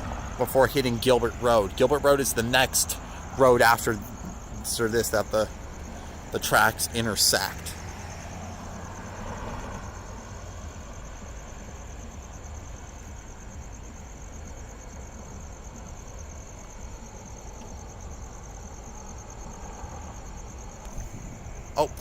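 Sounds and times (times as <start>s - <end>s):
crickets chirping: 0.0s - 22.0s
road traffic rumble: 0.0s - 22.0s.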